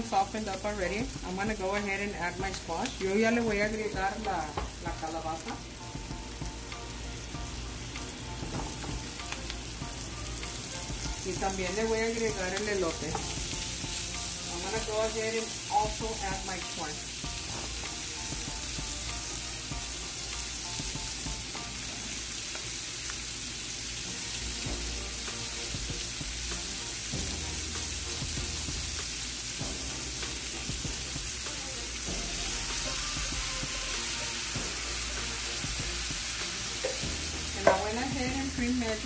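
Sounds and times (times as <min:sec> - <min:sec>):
vegetables sizzling in skillet: 0:00.0 - 0:39.0.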